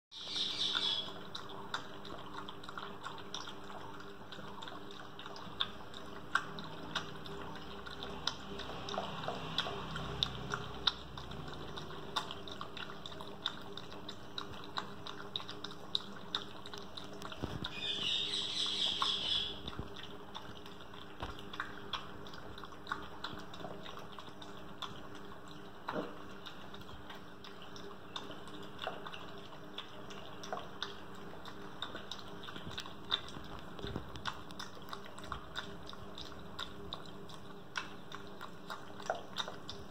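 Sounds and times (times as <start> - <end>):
puppy lapping from plastic bowl: 0.2 - 39.9.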